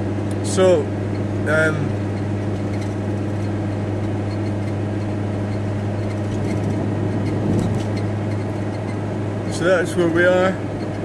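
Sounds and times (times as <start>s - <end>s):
road noise: 0.0s - 11.0s
van engine drone: 0.0s - 11.0s.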